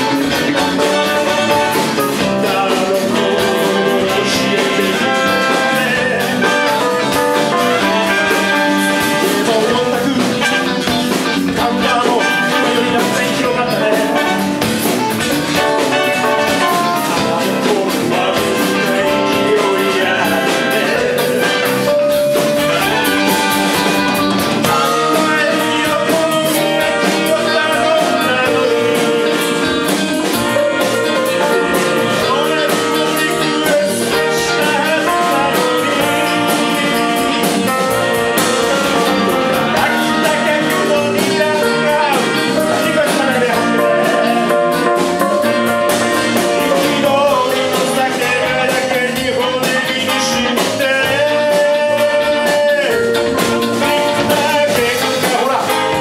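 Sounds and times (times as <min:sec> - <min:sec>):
man singing: 0:00.0 - 0:24.0, 0:24.6 - 0:56.0
live band playing: 0:00.0 - 0:56.0.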